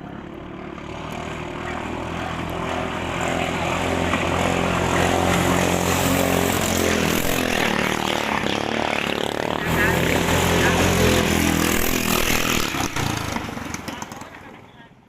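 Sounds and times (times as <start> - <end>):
boat engine running at high speed: 0.0 - 14.8.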